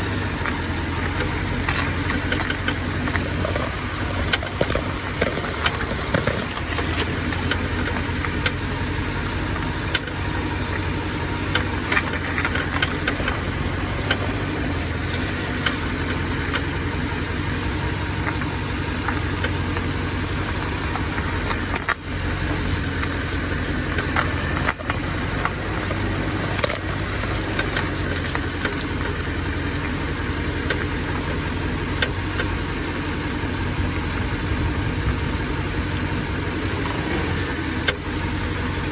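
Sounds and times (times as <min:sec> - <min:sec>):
brake creaks and clicks: 0:00.0 - 0:38.9
car engine running: 0:00.0 - 0:38.9.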